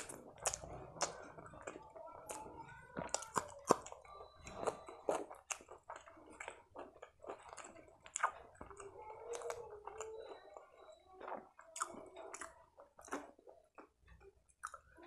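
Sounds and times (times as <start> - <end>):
wet chewing with crunches: 0.0 - 15.0.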